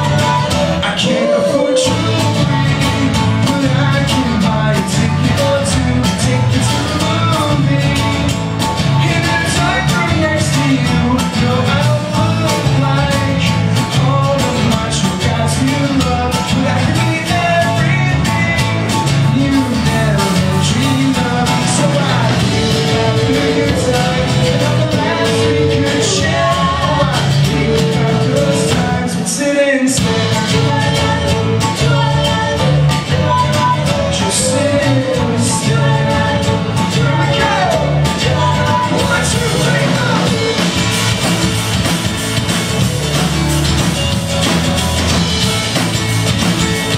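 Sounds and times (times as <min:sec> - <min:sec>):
person singing: 0:00.0 - 0:41.1
electric guitars: 0:00.0 - 0:46.9
live band playing: 0:00.0 - 0:46.9
steady drum beat: 0:00.0 - 0:46.9.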